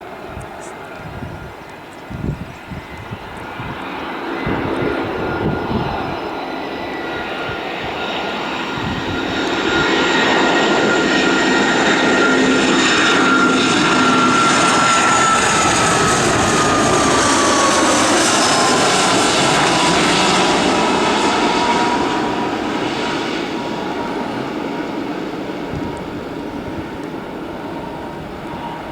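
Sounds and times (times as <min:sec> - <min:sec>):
jet airliner passing by: 0:00.0 - 0:28.9.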